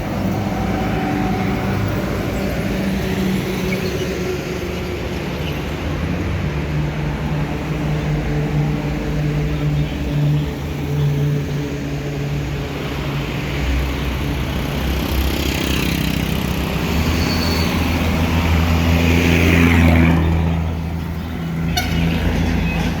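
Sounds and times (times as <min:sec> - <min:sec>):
truck diesel engine passing: 0:00.0 - 0:09.6, 0:12.2 - 0:23.0
road noise: 0:00.0 - 0:23.0.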